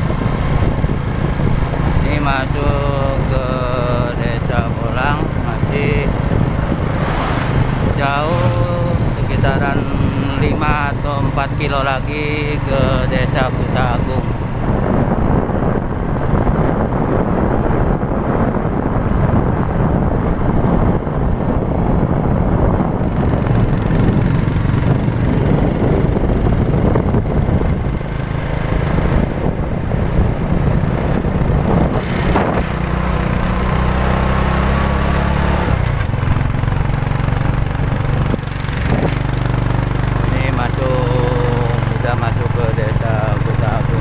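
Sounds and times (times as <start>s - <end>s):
motorcycle engine running: 0.0s - 44.0s
wind rumble on microphone: 0.0s - 44.0s.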